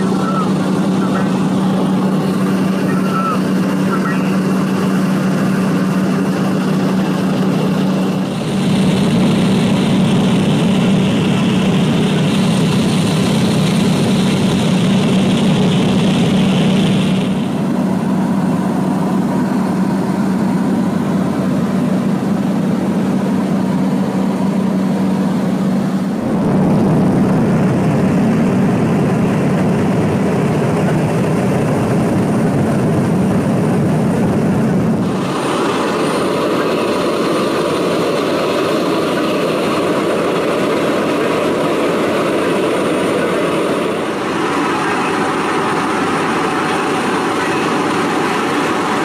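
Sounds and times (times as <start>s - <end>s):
turboprop engine droning: 0.0s - 49.0s.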